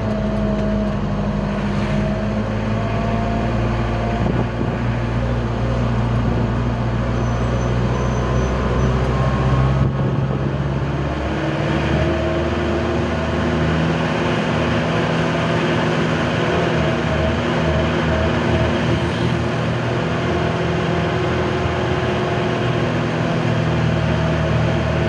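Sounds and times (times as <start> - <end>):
pickup engine while driving: 0.0 - 25.0.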